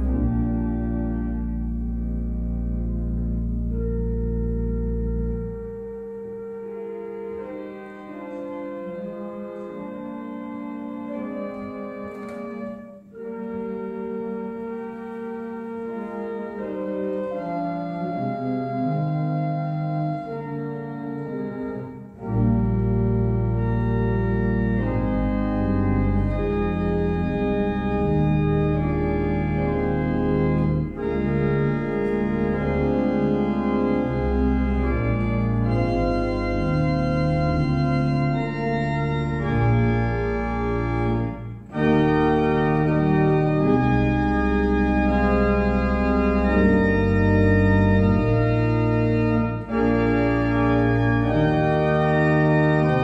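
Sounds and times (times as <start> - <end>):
church organ chords: 0.0 - 53.0.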